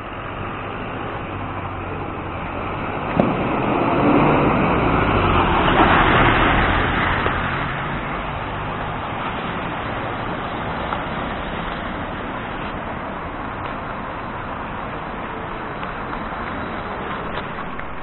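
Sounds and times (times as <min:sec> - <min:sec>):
city traffic hum: 0:00.0 - 0:18.0
vehicle passing close by: 0:00.0 - 0:18.0.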